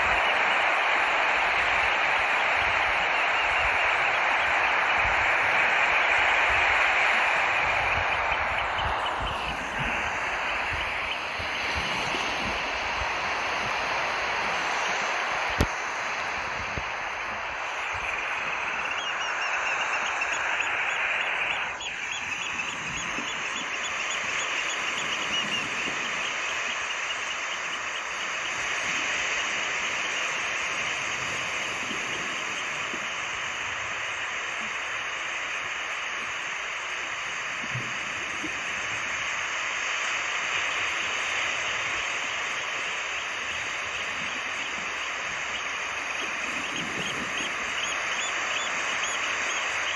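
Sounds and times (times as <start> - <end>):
birds calling: 0.0 - 36.8, 38.9 - 49.9
flowing water rushing: 0.0 - 49.9.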